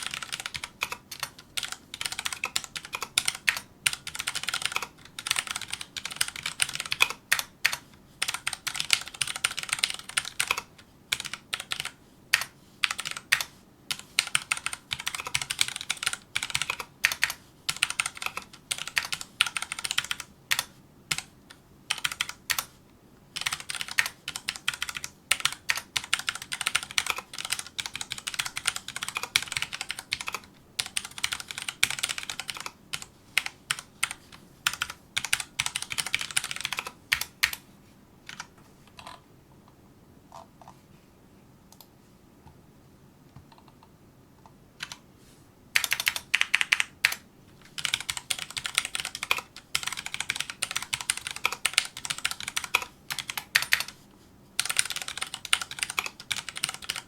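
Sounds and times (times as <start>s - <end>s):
mechanical keyboard typing: 0.0s - 22.7s, 23.4s - 37.6s, 38.3s - 39.2s, 44.8s - 45.0s, 45.8s - 54.0s, 54.6s - 57.0s.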